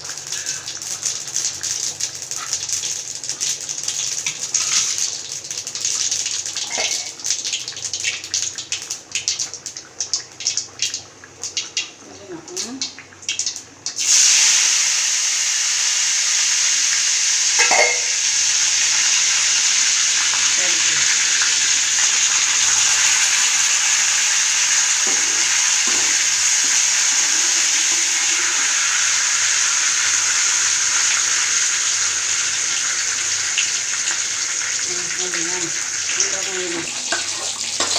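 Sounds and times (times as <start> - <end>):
food sizzling in hot oil: 0.0 - 10.6, 13.9 - 37.9.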